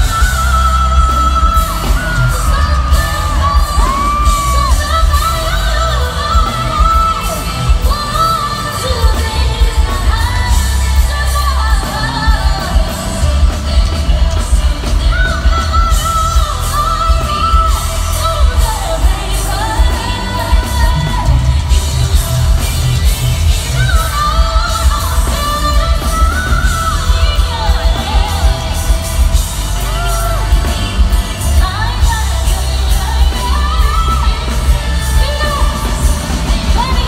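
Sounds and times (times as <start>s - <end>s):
pop backing track with heavy bass: 0.0s - 37.0s
woman singing into microphone: 0.0s - 37.0s.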